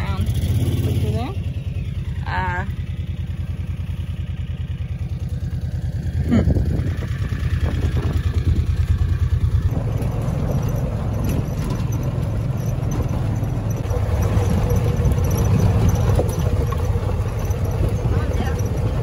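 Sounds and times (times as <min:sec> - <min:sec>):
vehicle engine running low: 0:00.0 - 0:19.0.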